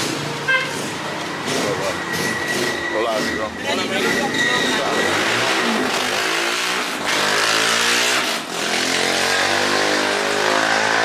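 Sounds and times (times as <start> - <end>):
vehicle engines passing: 0.0 - 11.0.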